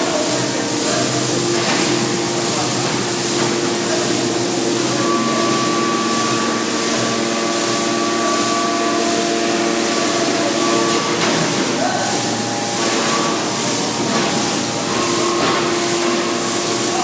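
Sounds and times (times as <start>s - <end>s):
metal crusher machine running: 0.0s - 17.0s.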